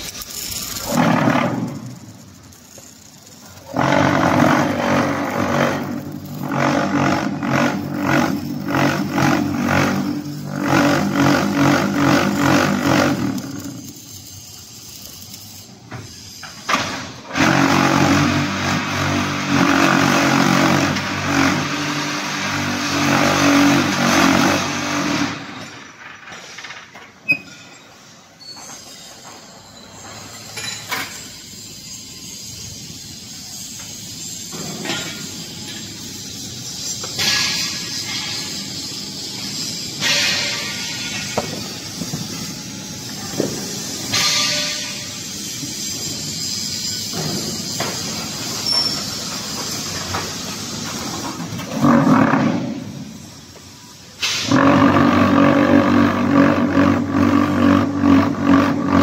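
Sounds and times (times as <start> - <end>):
machine vibrators humming and rattling: 0.0 - 59.0.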